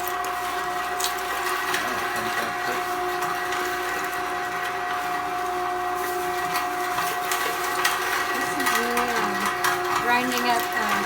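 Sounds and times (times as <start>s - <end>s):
electric meat grinder whining: 0.0s - 11.0s.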